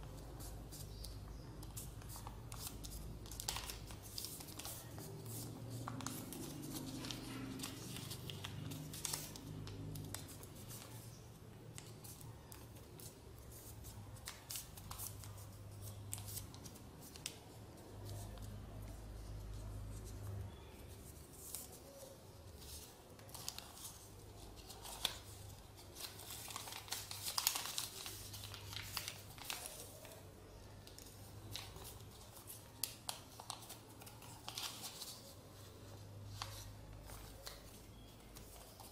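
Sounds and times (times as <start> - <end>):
paper rustling and crinkling: 0.1 - 38.9.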